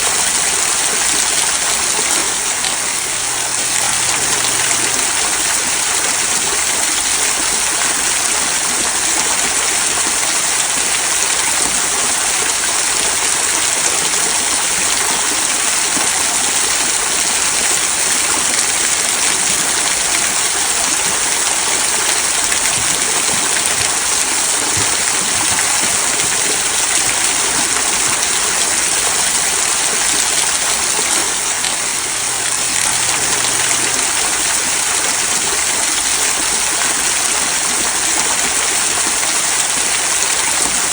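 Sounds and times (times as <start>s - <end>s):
small waterfall splashing and babbling: 0.0s - 40.9s.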